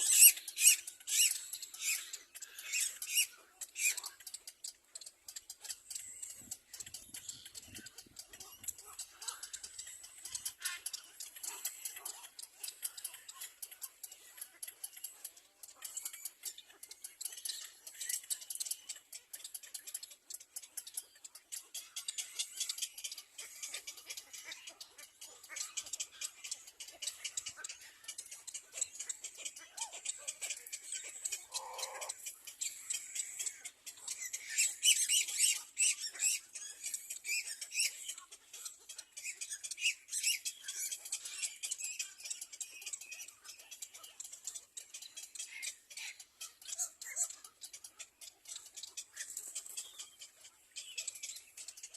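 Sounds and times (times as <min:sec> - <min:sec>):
baby birds chirping: 0:00.0 - 0:51.9.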